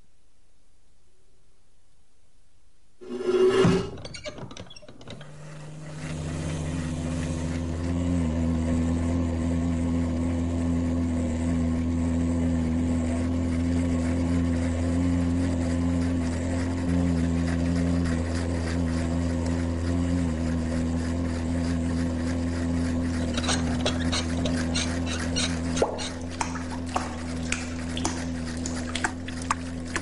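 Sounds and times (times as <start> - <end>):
motor droning: 5.1 - 30.0.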